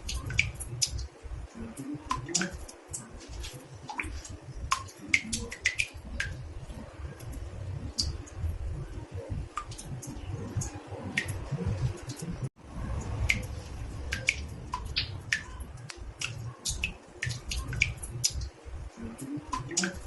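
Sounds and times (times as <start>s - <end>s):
water drops plinking in bathtub: 0.0s - 12.3s, 13.0s - 20.0s.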